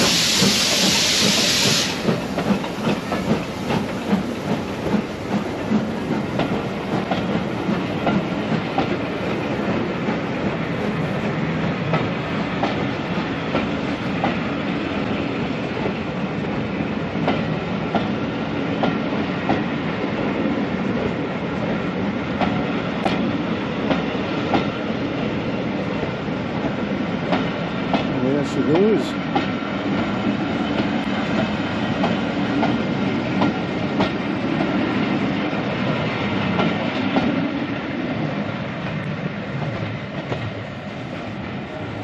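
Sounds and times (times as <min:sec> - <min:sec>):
steam train rumble: 0:00.0 - 0:42.0.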